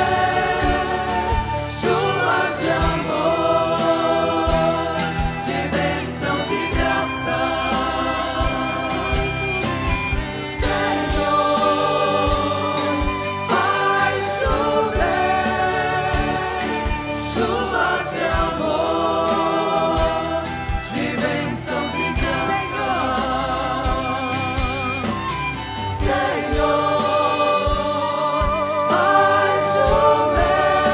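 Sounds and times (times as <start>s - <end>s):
choir and congregation singing: 0.0s - 30.9s.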